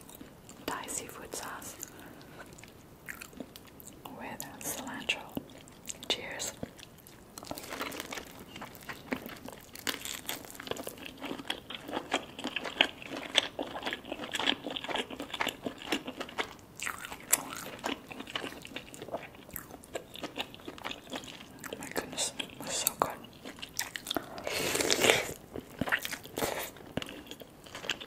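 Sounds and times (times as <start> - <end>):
chewing with crunches: 0.0 - 28.0.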